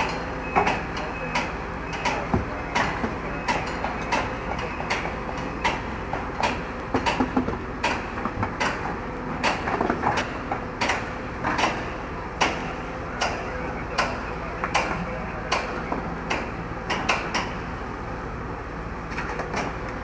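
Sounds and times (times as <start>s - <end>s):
excavator diesel engines running: 0.0s - 20.0s.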